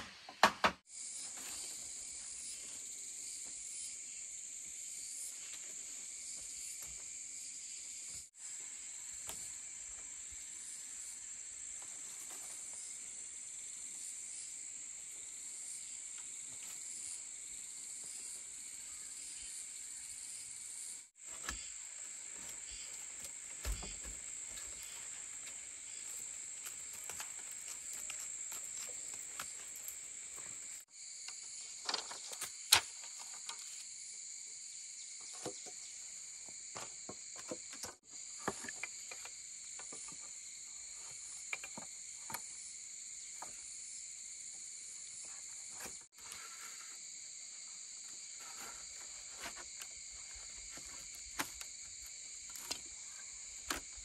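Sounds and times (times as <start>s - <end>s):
insects trilling: 0.9s - 54.0s.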